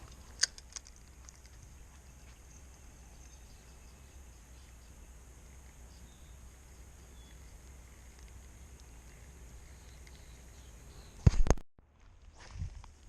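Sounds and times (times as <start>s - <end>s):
insects droning: 0.0s - 11.3s.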